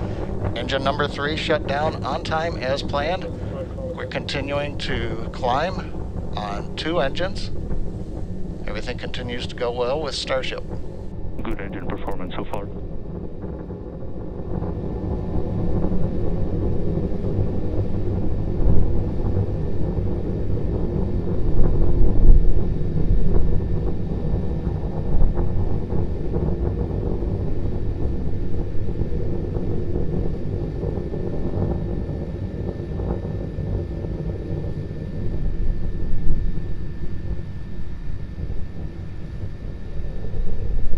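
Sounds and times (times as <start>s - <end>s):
rocket engines rumbling: 0.0s - 40.9s.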